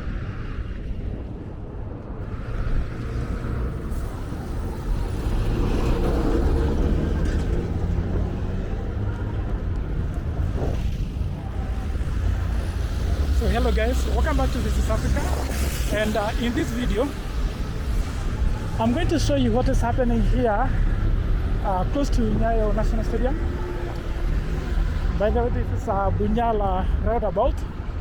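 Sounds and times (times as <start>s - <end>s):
road traffic rumble: 2.1s - 28.0s.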